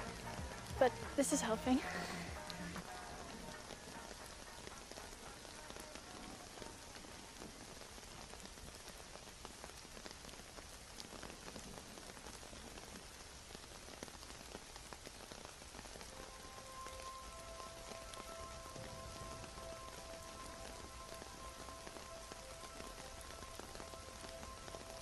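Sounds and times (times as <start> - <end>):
rain hissing: 0.0 - 25.0
raindrop ticks: 0.0 - 25.0.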